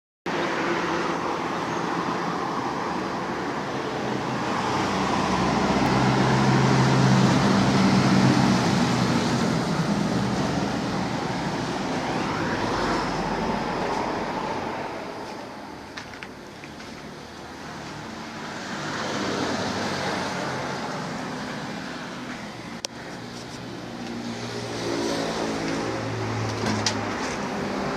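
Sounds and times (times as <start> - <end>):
tyre and road noise: 0.3 - 27.9
vehicle engine drone passing: 2.3 - 27.9.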